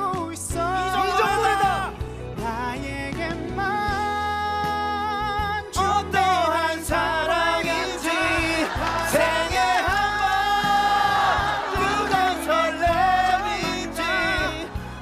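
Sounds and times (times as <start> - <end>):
keyboard accompaniment: 0.0 - 15.0
two men singing: 0.0 - 15.0.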